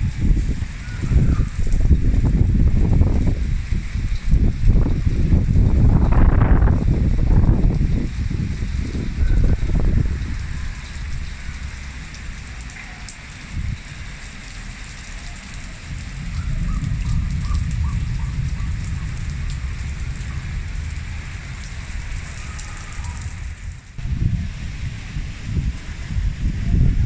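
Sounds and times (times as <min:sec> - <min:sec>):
low rumble: 0:00.0 - 0:14.0, 0:15.8 - 0:27.0
rain falling: 0:00.0 - 0:27.0.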